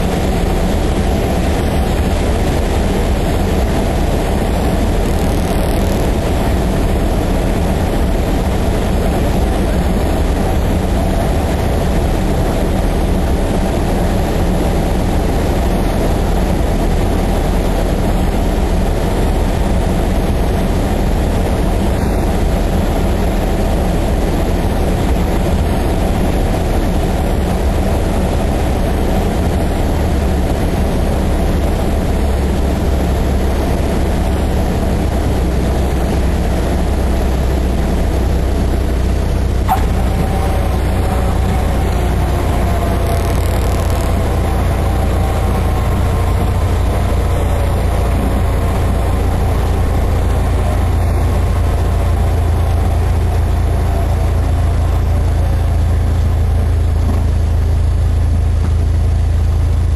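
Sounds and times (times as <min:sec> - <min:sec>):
rushing air: 0:00.0 - 0:58.8
aircraft cabin engine drone: 0:00.0 - 0:59.9.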